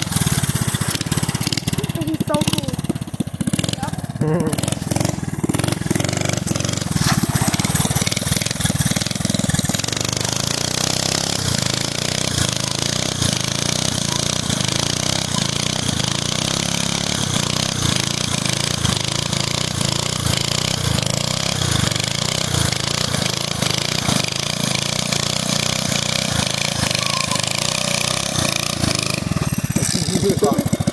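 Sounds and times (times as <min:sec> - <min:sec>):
small engine revving hard: 0:00.0 - 0:30.9
tire spinning on asphalt: 0:00.0 - 0:30.9.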